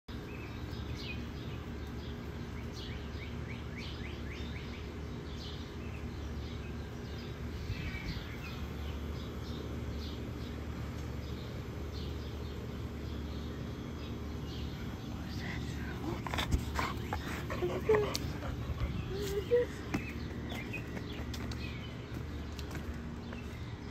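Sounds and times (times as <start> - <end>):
low hum: 0.1 - 23.9
small birds chirping: 0.1 - 23.9.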